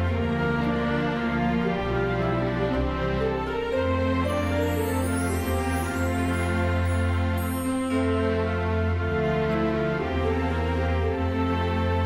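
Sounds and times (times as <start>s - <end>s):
slow sustained music chords: 0.0s - 12.0s.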